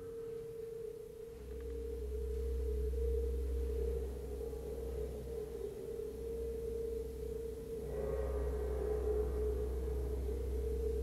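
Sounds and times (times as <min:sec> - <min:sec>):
deep low drone: 0:00.0 - 0:11.0
eerie sustained tone: 0:00.0 - 0:11.0.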